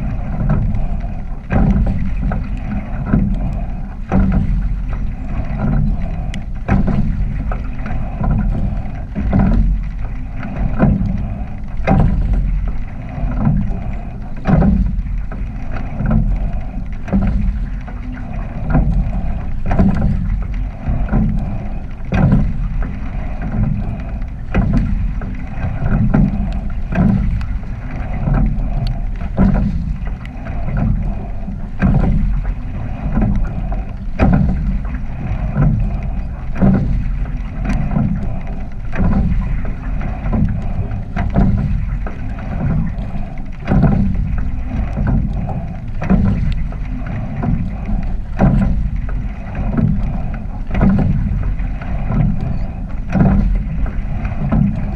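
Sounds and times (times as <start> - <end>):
oar knocking in oarlock: 0.0 - 54.9
water rushing past hull: 0.0 - 54.9
wind on microphone: 0.0 - 54.9.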